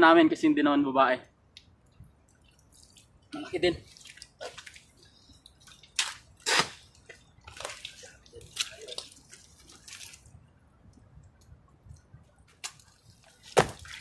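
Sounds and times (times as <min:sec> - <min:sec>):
muddy water splashing: 0:02.1 - 0:11.3, 0:11.9 - 0:14.0.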